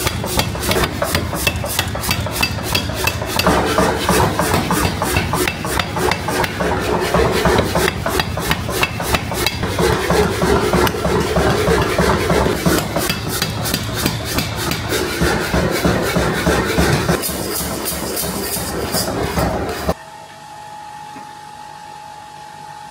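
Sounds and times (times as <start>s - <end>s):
hammer strikes on steel: 0.0s - 19.7s.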